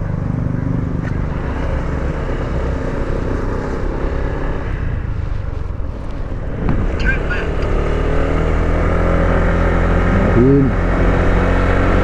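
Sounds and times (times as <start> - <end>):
road and wind rumble: 0.0 - 12.0
scooter engine running: 0.0 - 12.0.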